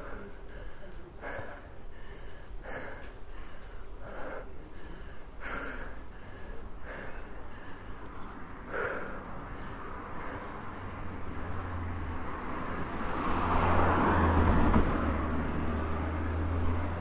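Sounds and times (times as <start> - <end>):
cyclist breathing hard: 0.0 - 17.0.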